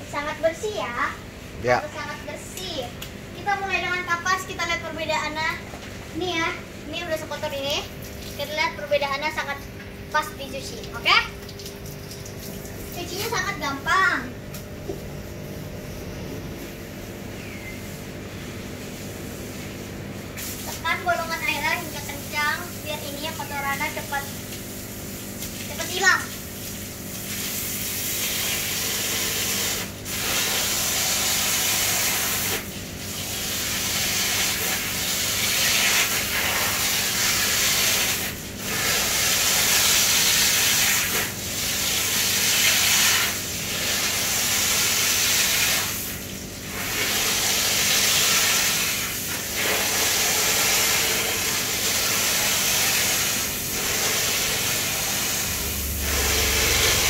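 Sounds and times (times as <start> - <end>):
hose spraying water: 6.2 - 15.0, 17.6 - 57.0.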